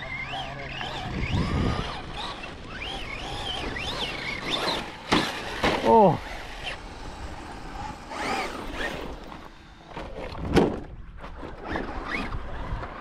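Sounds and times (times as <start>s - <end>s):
electric motor whining: 0.0s - 10.5s.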